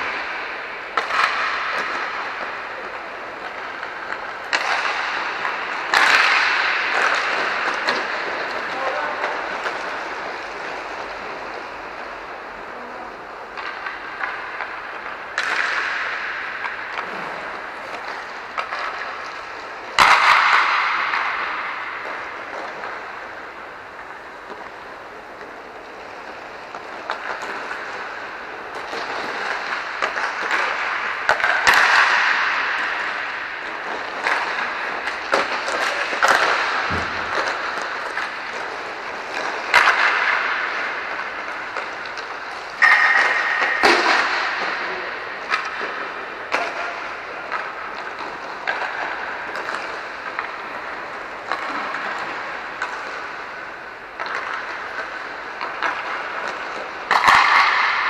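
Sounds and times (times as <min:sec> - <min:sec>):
pucks cracking against boards: 0:00.0 - 0:58.0
skate wheels rumbling: 0:00.0 - 0:58.0.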